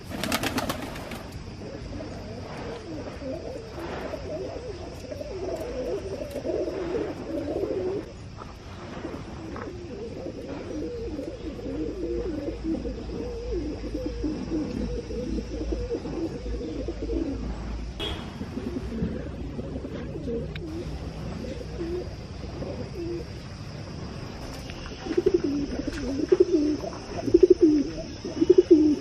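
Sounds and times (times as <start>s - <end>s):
pigeons cooing: 0.0s - 8.1s, 8.9s - 23.3s, 25.0s - 29.0s.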